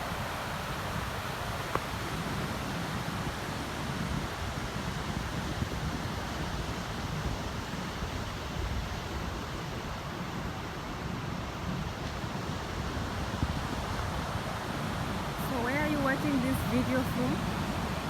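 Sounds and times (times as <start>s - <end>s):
surf washing onto beach: 0.0s - 18.0s
wind rumbling on microphone: 0.0s - 18.0s.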